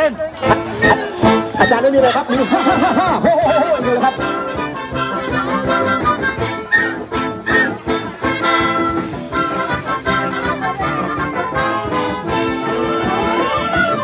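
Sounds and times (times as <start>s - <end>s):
wind band playing upbeat tune: 0.0s - 14.0s.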